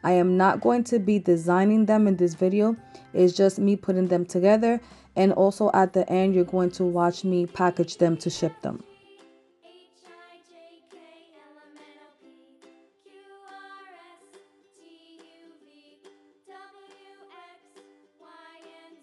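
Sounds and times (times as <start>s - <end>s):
quiet background music: 0.0s - 19.0s.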